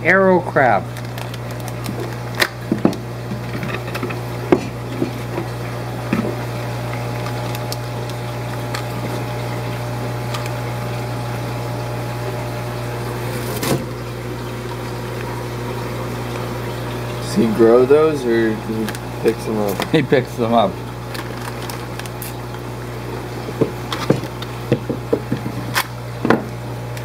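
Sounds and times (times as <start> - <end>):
pumps and air hum: 0.0 - 27.0.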